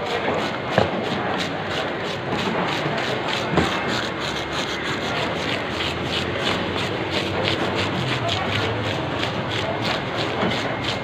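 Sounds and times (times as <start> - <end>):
fish scaler scraping scales: 0.0 - 11.0
steady background noise: 0.0 - 11.0.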